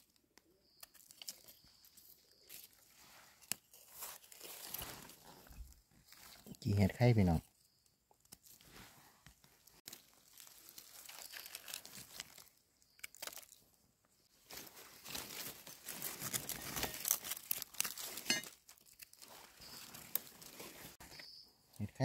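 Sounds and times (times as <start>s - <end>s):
leaf litter and soil crunching: 0.0s - 7.4s, 8.2s - 21.1s.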